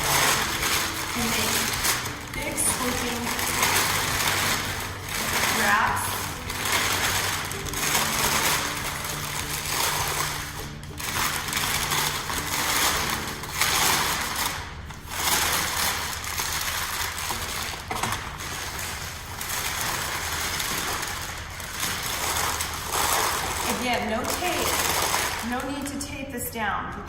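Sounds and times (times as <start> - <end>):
packing paper crinkling: 0.0 - 26.1.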